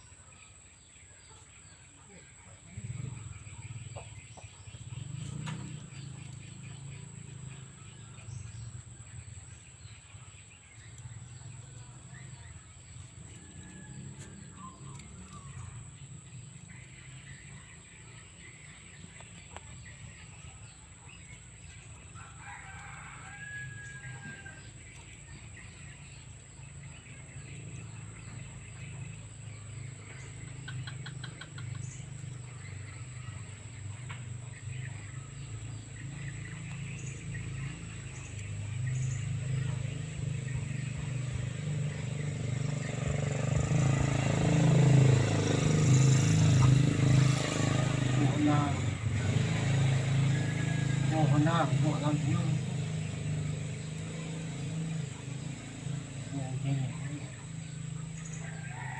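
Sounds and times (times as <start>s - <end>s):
bird chirps: 0.0s - 58.9s.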